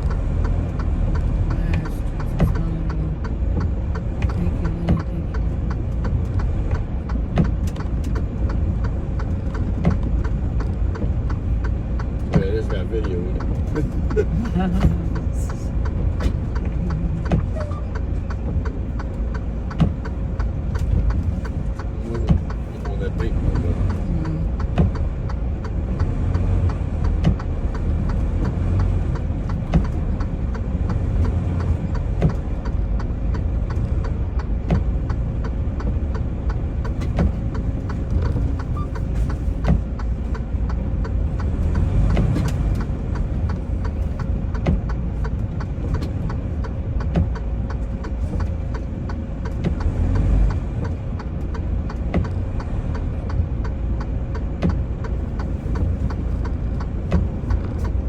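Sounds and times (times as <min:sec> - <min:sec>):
diesel engine and road rumble: 0:00.0 - 0:58.0
light clicks and knocks: 0:00.0 - 0:58.0.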